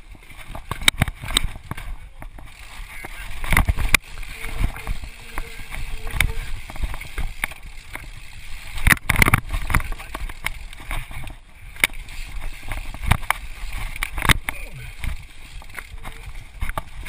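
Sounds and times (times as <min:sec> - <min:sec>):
mountain bike rattling over rocks: 0:00.0 - 0:17.0.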